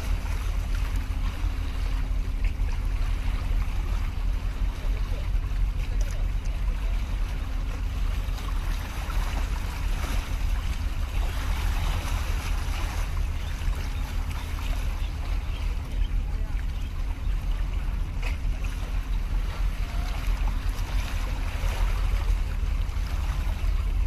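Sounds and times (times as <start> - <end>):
sea water lapping against concrete: 0.0 - 24.0
wind rumbling on microphone: 0.0 - 24.0.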